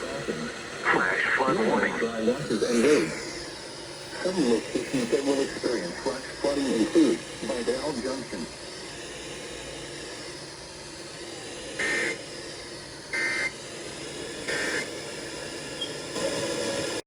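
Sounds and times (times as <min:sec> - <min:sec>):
radio static hiss: 0:00.0 - 0:13.6, 0:14.4 - 0:17.0.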